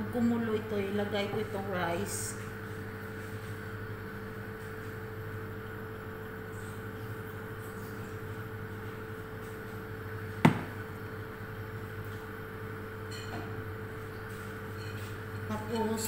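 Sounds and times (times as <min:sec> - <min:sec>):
low hum of gas burner: 0:00.0 - 0:16.0.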